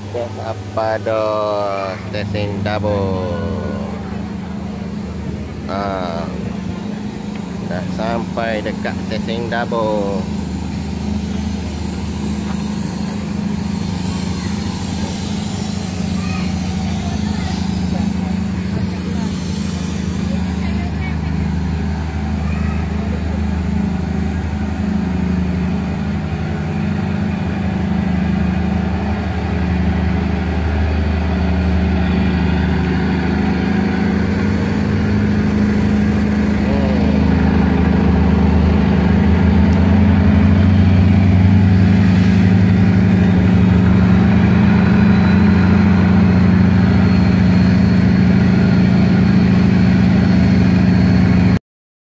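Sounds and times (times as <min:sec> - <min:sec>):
diesel train engine idling: 0:00.0 - 0:51.6.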